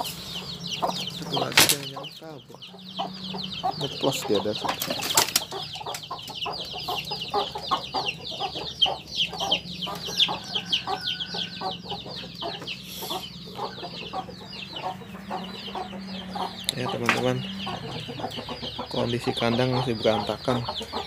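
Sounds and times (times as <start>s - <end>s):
chicks peeping: 0.0s - 21.0s
hen clucking: 0.0s - 21.0s.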